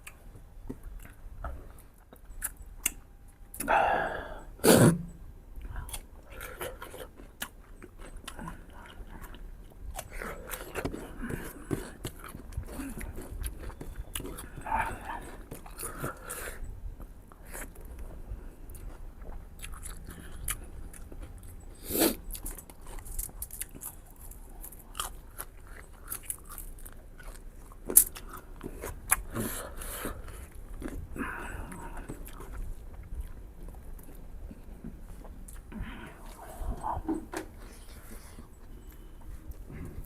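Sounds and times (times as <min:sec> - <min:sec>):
person chewing: 0:00.0 - 0:40.0.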